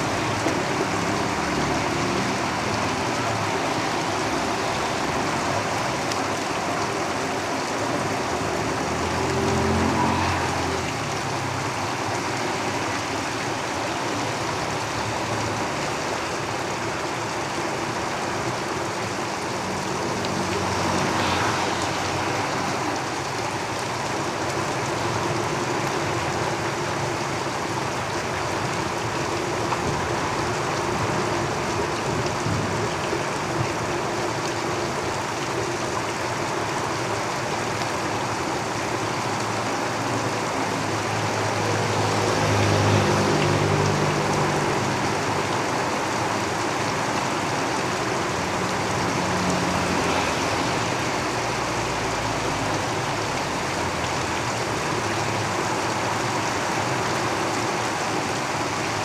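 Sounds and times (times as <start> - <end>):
heavy rain on a tin roof: 0.0 - 59.0
road traffic rumbling: 0.0 - 59.0.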